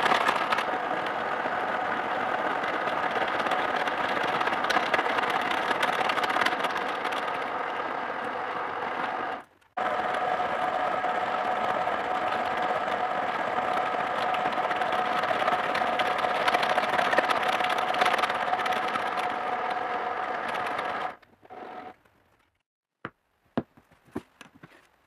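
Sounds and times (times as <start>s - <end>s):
spindle hum: 0.0s - 22.0s.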